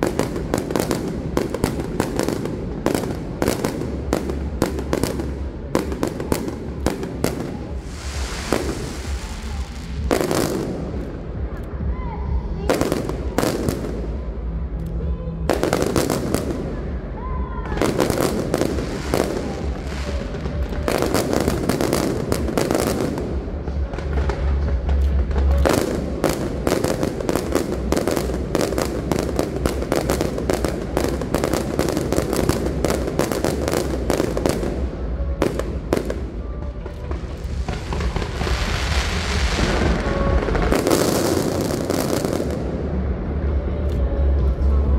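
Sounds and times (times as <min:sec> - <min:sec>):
firework crackling: 0:00.0 - 0:11.8, 0:12.6 - 0:14.4, 0:15.4 - 0:43.3.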